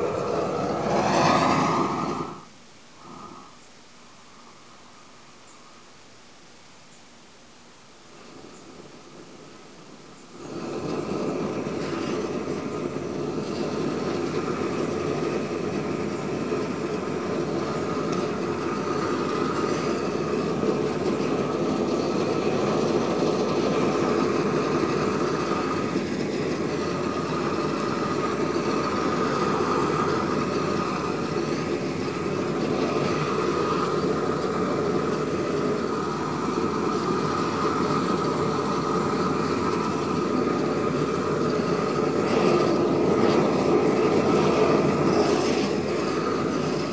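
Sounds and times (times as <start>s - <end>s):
torch flame rushing: 0.0s - 3.5s, 8.1s - 46.9s.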